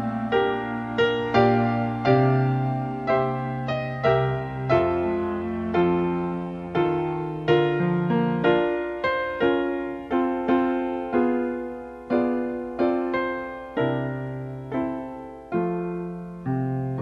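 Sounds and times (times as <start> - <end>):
deep piano bass notes: 0.0 - 17.0
piano chords ringing: 0.0 - 17.0.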